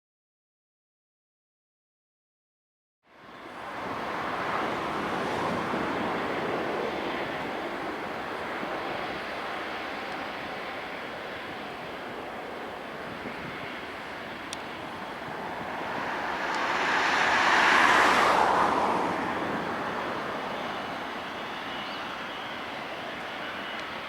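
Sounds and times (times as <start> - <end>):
jet passing by: 3.2 - 24.0.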